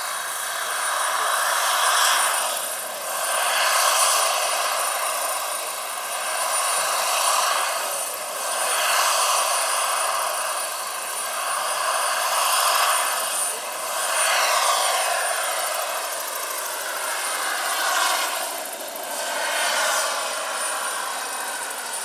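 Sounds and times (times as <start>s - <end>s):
helicopter rotor noise: 0.0s - 22.0s
high turbine whine: 0.0s - 22.0s.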